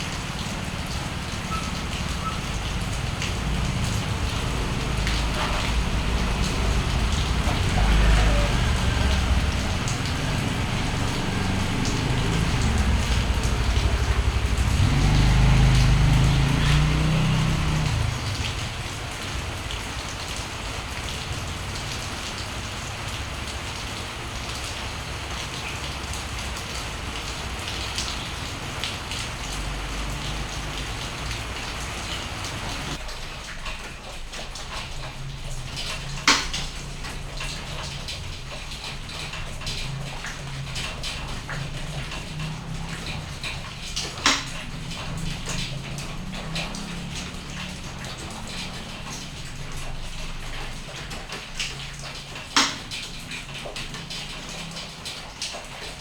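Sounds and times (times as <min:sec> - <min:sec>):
motorcycle passing: 0:00.0 - 0:33.0, 0:39.2 - 0:51.2
rain pattering: 0:00.0 - 0:56.0.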